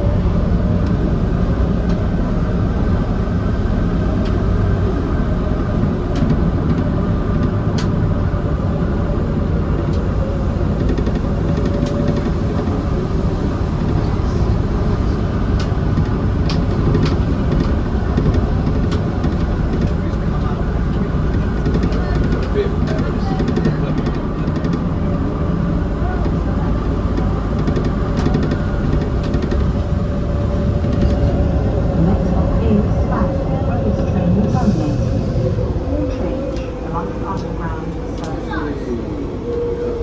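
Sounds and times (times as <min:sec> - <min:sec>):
train wheels and motors rumbling: 0:00.0 - 0:40.0.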